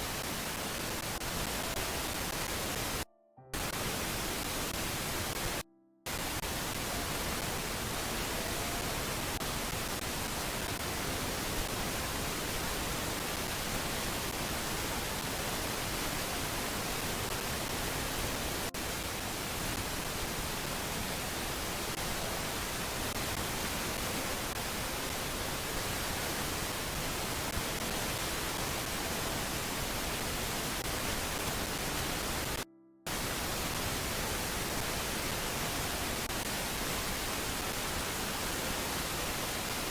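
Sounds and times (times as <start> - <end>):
static-like hiss: 0.0 - 39.9.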